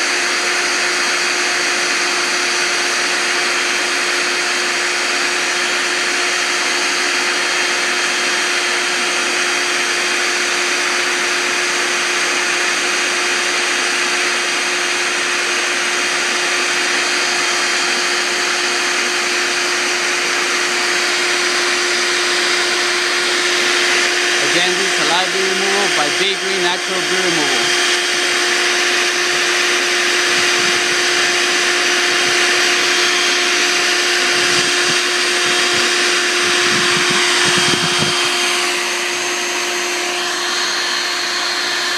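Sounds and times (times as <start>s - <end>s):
vacuum motor humming: 0.0s - 41.9s.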